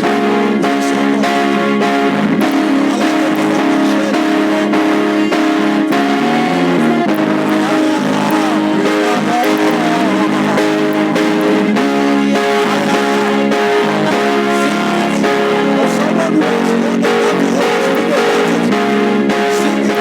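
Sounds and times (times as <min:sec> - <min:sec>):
church praise music: 0:00.0 - 0:20.0
strummed guitar: 0:00.0 - 0:20.0.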